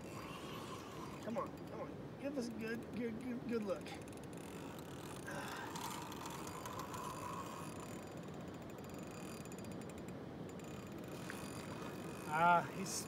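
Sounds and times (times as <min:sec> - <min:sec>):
faint whine: 0:00.0 - 0:13.0
fishing reel ticking: 0:00.0 - 0:13.0.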